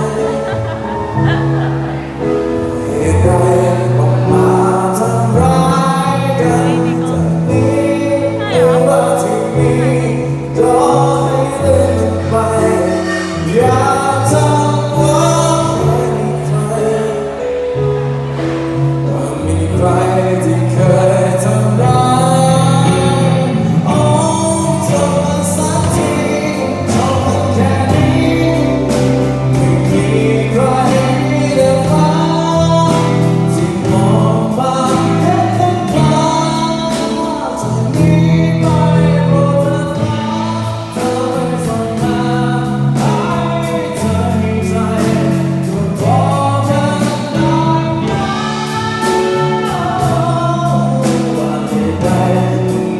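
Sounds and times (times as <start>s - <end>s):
live pop-rock band: 0.0s - 52.9s
person singing: 0.0s - 52.9s.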